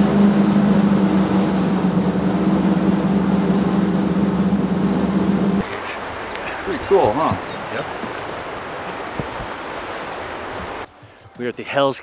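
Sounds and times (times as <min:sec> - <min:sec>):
boat motor droning: 0:00.0 - 0:10.9.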